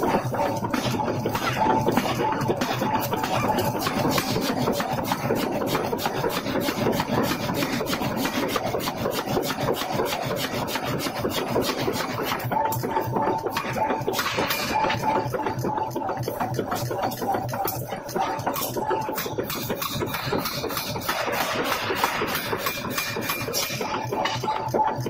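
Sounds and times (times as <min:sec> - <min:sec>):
forging hammer striking metal: 0:00.0 - 0:08.8, 0:09.4 - 0:15.8, 0:16.6 - 0:25.0.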